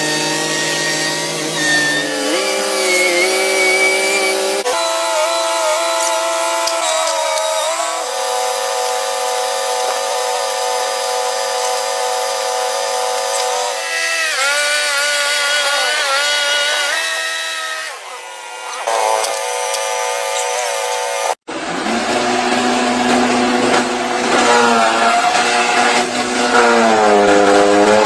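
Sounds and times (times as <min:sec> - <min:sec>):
machine motor whining: 0:00.0 - 0:28.0.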